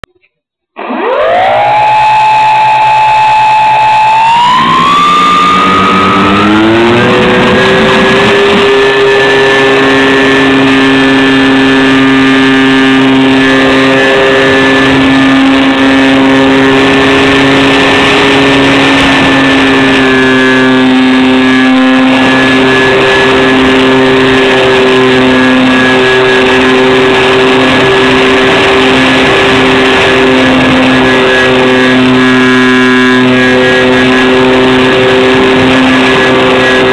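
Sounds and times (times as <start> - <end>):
electric motors and propellers whining: 0.8 - 36.9.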